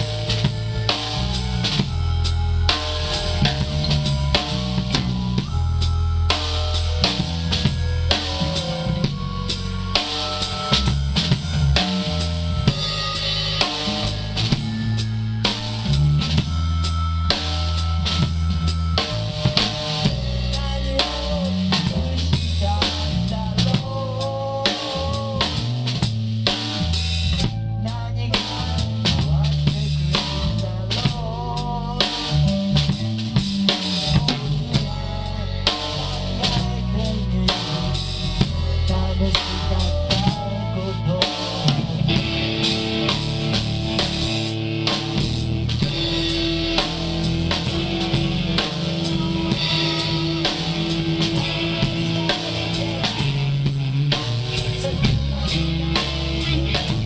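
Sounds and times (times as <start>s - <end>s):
drum kit kick and snare: 0.0s - 57.0s
rock band instrumental: 0.0s - 57.0s.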